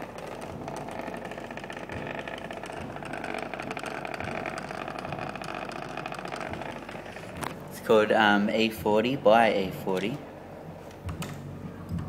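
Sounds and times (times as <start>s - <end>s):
deep bass rumble from subwoofer: 0.0s - 12.0s.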